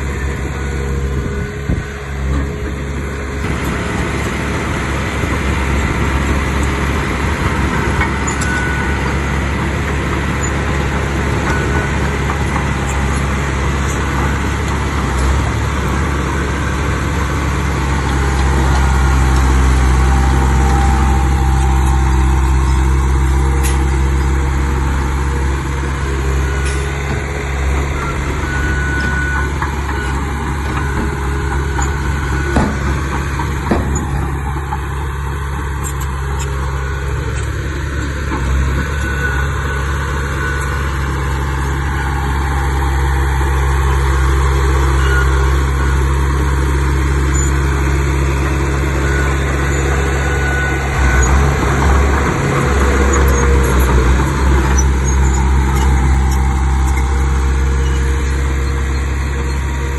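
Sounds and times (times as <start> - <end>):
diesel earthmoving machinery: 0.0 - 59.9.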